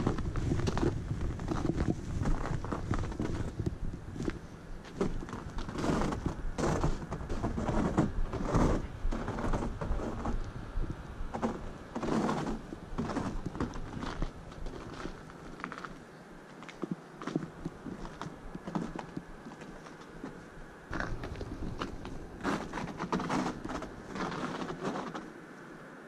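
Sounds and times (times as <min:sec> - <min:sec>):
boots crunching on snow: 0:00.0 - 0:10.3, 0:11.4 - 0:25.2.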